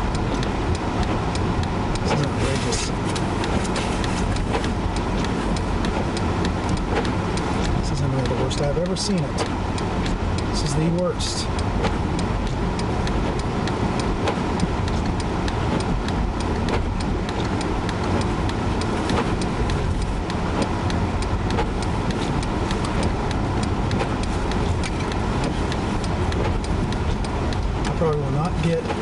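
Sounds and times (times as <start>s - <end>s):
car road and engine noise: 0.0s - 29.0s
light ticks: 0.0s - 29.0s.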